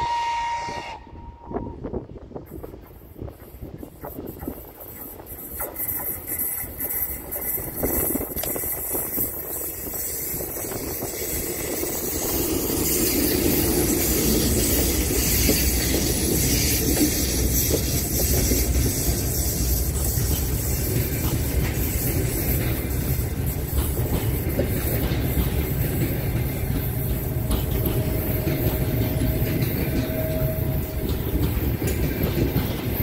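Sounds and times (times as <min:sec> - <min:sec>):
electric locomotive passing: 0:00.0 - 0:33.0
train wheels on rails: 0:00.0 - 0:33.0.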